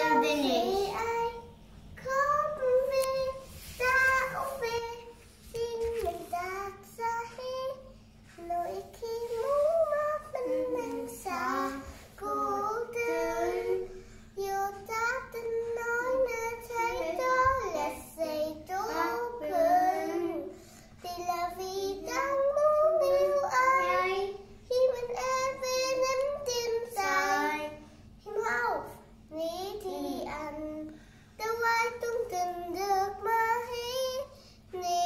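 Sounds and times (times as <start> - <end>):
girl singing: 0.0 - 35.0.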